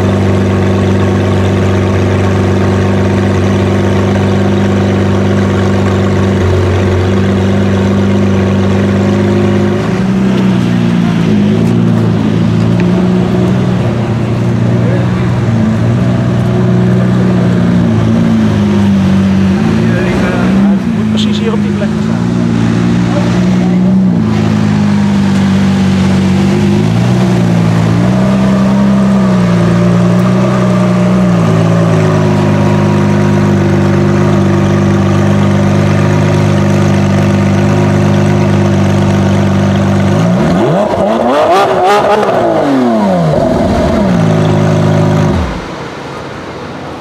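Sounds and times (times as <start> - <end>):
engine cutting off: 0.0 - 46.3
car engine idling: 0.0 - 47.0
car engine revving: 0.0 - 47.0.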